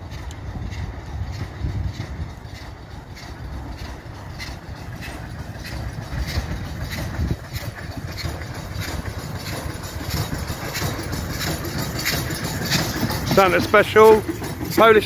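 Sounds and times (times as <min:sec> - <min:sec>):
low rumble: 0:00.0 - 0:15.0
steam locomotive chuffing: 0:00.0 - 0:15.0.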